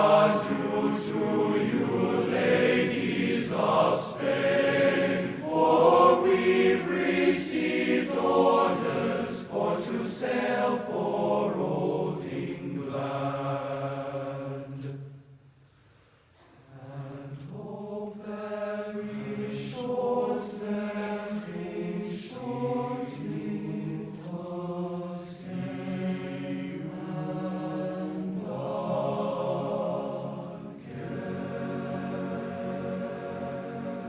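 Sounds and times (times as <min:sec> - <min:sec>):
choir singing long-held notes: 0:00.0 - 0:15.5, 0:16.6 - 0:34.0.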